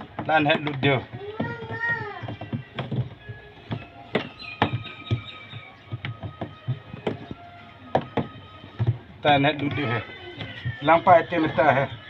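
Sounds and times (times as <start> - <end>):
sharp knocks and clicks: 0.0 - 11.0.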